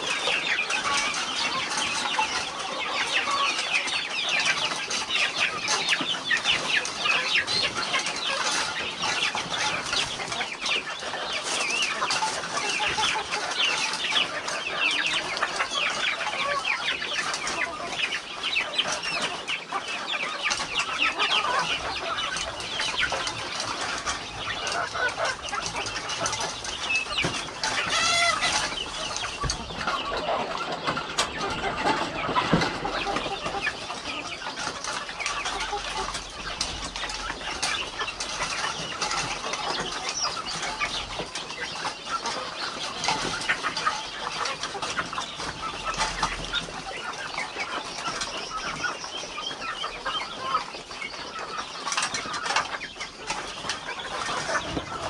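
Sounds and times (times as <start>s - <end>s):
chickens clucking and calling: 0.0s - 55.0s.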